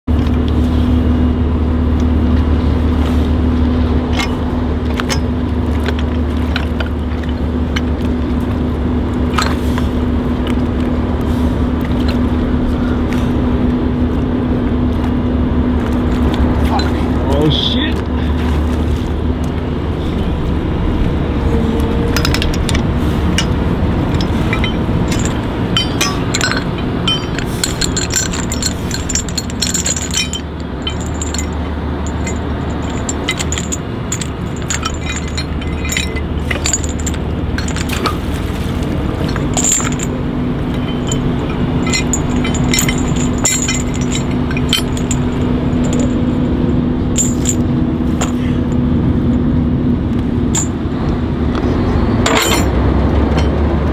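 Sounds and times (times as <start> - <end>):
engine drone: 0.0 - 53.9
steel chain clinking and scraping: 3.0 - 13.4, 15.8 - 19.1, 20.0 - 49.4, 50.4 - 50.8, 51.5 - 53.6.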